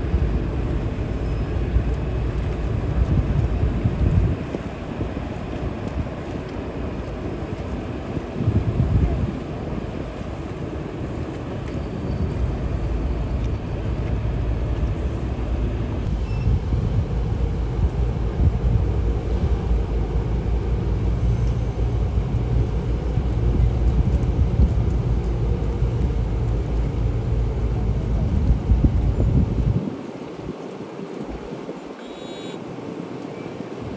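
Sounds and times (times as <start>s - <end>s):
heavy engine rumbling: 0.0s - 29.8s.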